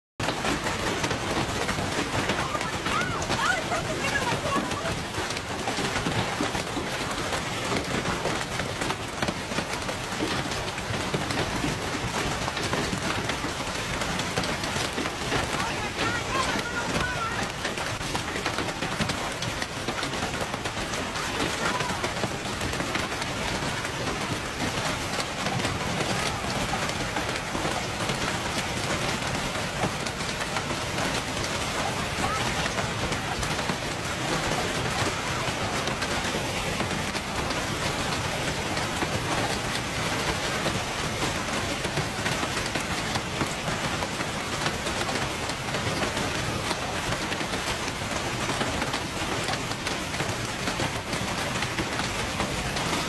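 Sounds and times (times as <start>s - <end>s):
hail clattering on cars: 0.2s - 53.0s.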